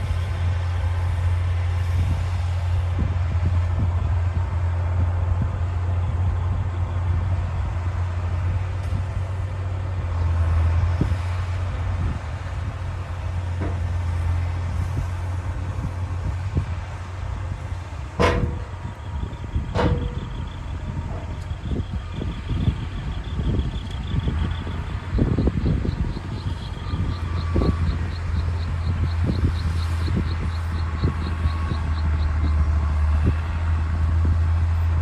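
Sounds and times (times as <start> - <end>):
bulldozer diesel engine droning: 0.0 - 35.0.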